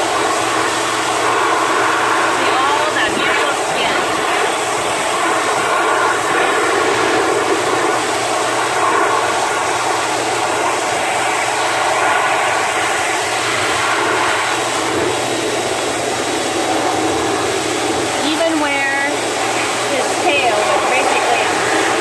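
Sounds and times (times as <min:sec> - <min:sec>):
blow dryer blowing air: 0:00.0 - 0:22.0.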